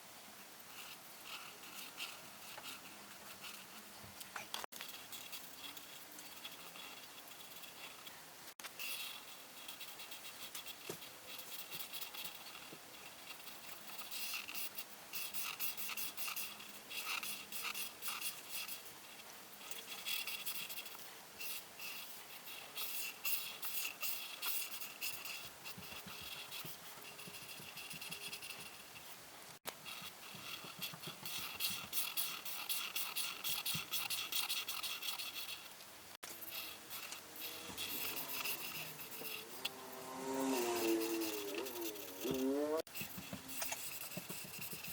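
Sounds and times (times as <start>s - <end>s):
coloring tool scratching paper: 0.7s - 3.9s, 4.7s - 44.9s.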